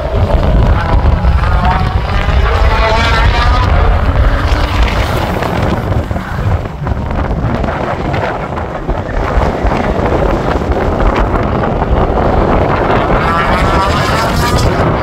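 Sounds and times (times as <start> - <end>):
race car engines: 0.0 - 15.0
wind buffeting microphone: 0.0 - 15.0.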